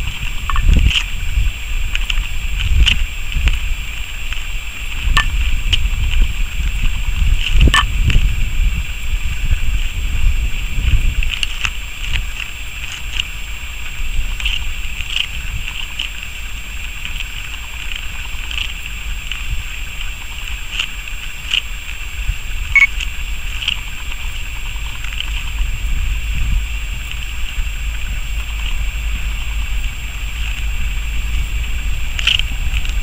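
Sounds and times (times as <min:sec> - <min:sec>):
distant diesel locomotive rumble: 0:00.0 - 0:33.0
wind on microphone: 0:00.0 - 0:33.0.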